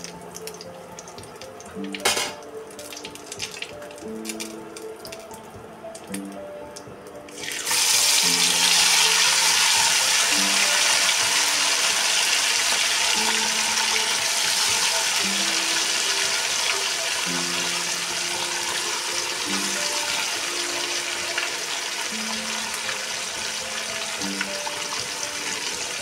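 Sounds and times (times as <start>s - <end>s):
fish deep-frying in hot oil: 0.0s - 26.0s
soft background music: 0.0s - 26.0s.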